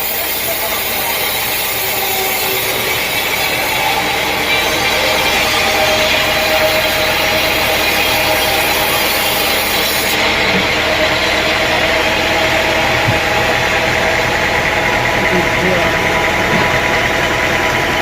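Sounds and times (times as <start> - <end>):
engine running: 0.0 - 18.0
saw cutting through a log: 0.0 - 18.0.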